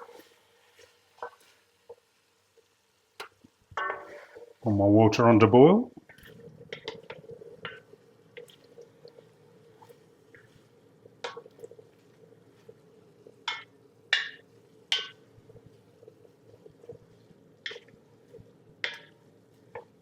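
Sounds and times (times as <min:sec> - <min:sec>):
food bubbling in a pan: 0:00.0 - 0:20.0.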